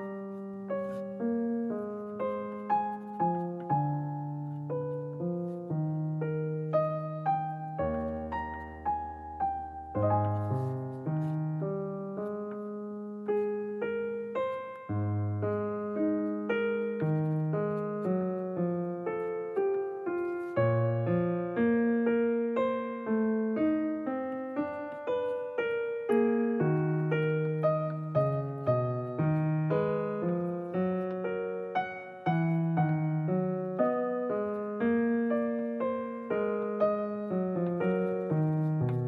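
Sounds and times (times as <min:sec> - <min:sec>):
background piano music: 0:00.0 - 0:39.0.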